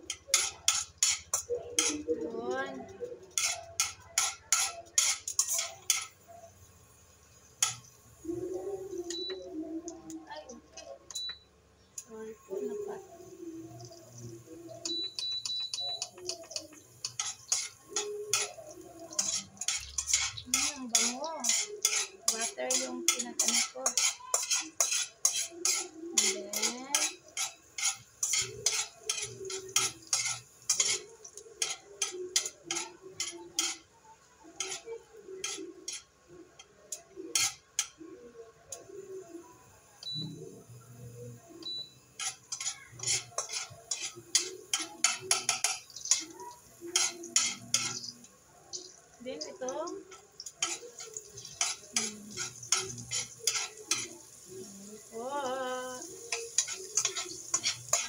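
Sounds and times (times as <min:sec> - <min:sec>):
metal spoon scraping a pan: 0:00.0 - 0:10.0, 0:11.9 - 0:39.4, 0:40.0 - 0:58.0
garlic sizzling in butter: 0:00.0 - 0:10.9, 0:12.0 - 0:58.0.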